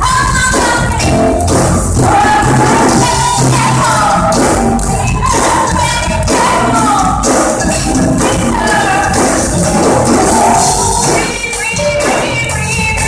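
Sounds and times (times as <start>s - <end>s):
woman singing into microphone: 0.0s - 9.4s, 10.3s - 13.0s.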